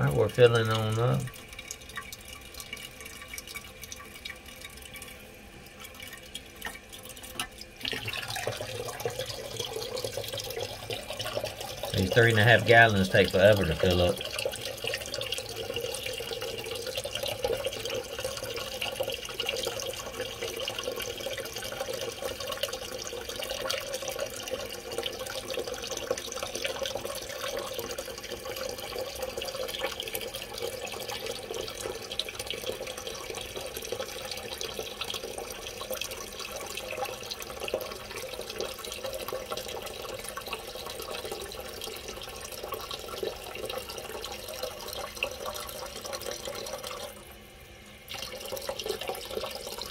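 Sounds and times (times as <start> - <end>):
toilet tank refilling: 0.0 - 49.9.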